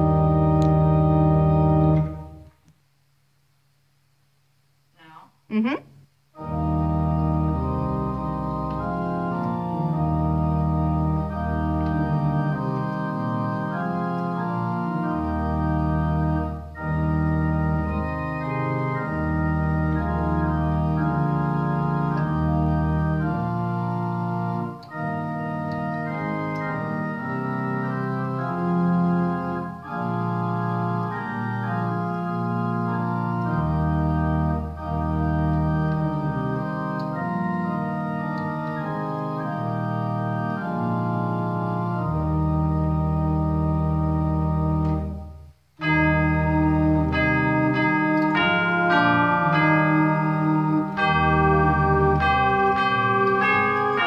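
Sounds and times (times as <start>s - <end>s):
church organ playing a hymn: 0.0s - 2.6s, 6.3s - 54.0s.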